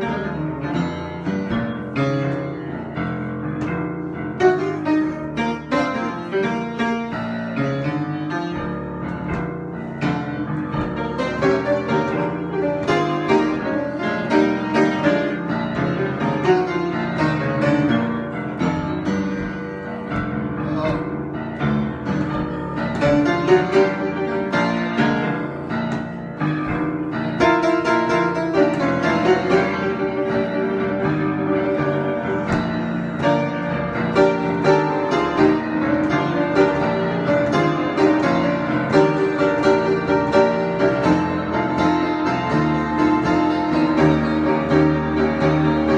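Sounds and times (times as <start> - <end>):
solo piano: 0.0 - 45.9.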